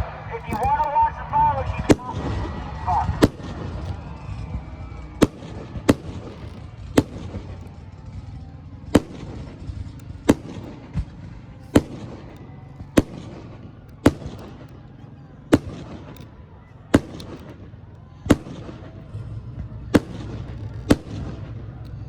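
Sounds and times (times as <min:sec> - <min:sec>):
low background rumble: 0:00.0 - 0:22.0
firework shells bursting: 0:00.3 - 0:22.0.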